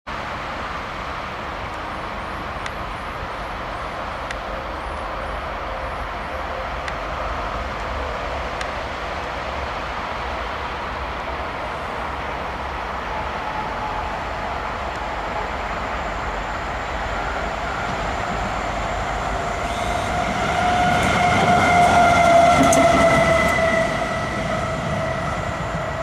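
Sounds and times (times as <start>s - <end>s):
diesel locomotive engine drone: 0.1s - 26.0s.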